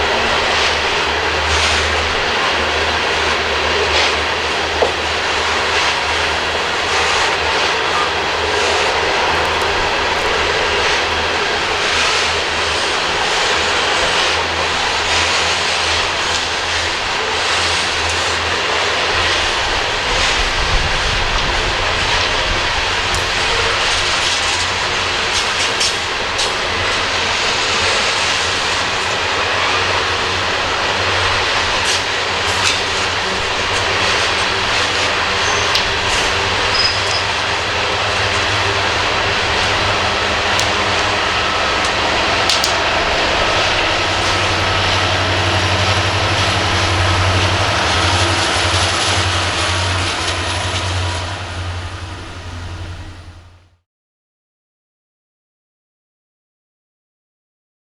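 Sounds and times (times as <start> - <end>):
wheels clicking: 0.0 - 53.6
diesel locomotive hum: 0.0 - 53.8
train cars rumbling past: 0.0 - 53.8.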